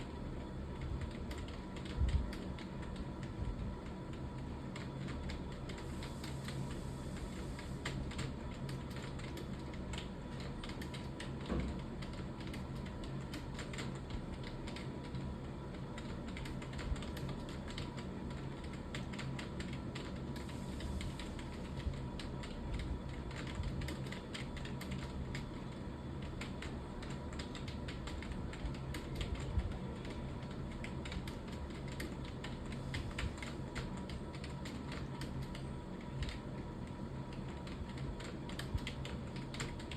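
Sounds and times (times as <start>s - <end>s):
background hum: 0.0s - 39.9s.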